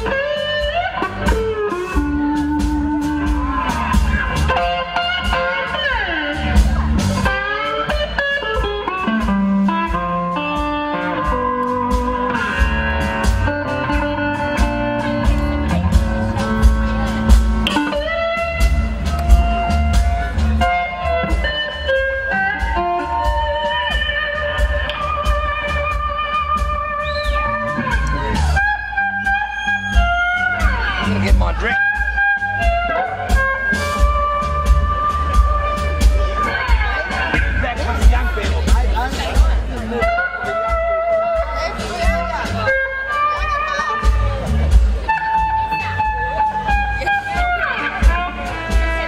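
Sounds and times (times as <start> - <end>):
electric slide guitar solo: 0.0 - 37.6, 40.0 - 49.0
steady beat: 0.0 - 49.0.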